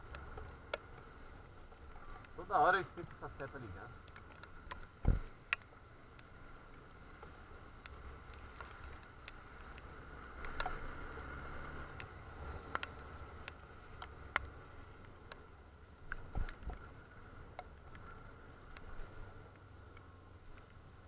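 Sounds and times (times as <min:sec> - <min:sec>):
motorcycle engine and wind rumble: 0:00.0 - 0:21.0.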